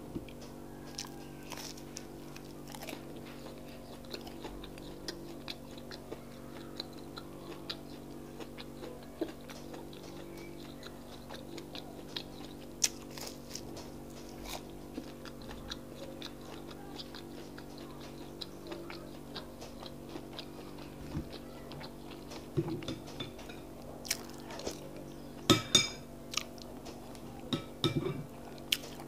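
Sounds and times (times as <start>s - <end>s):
person chewing food: 0.2s - 29.0s.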